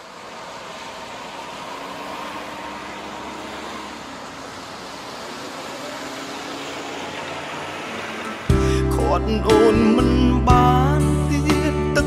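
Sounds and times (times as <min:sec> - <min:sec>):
road traffic rushing: 0:00.0 - 0:11.9.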